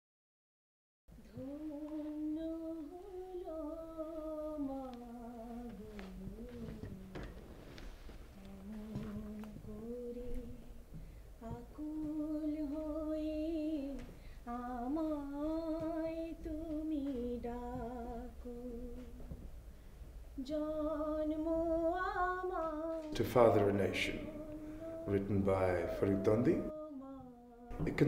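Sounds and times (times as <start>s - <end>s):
woman singing unaccompanied: 1.1s - 7.5s, 8.3s - 19.4s, 20.4s - 28.0s.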